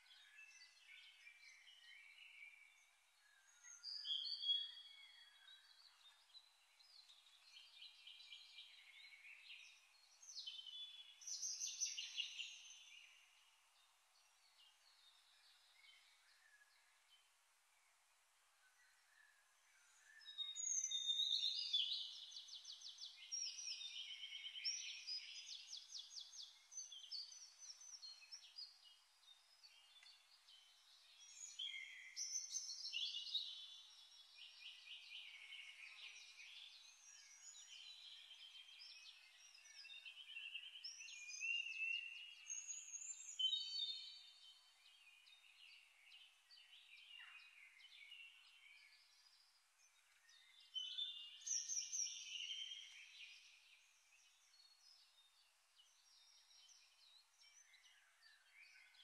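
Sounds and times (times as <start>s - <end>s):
faint birdsong with trills: 0.0s - 59.0s.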